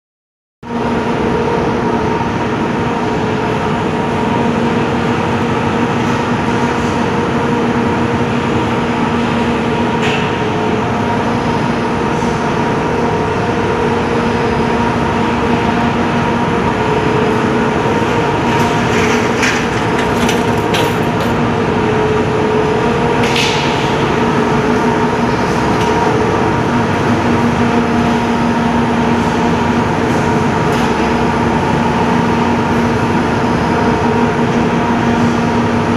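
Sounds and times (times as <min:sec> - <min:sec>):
mechanical drone with low hum: 0:00.6 - 0:35.9.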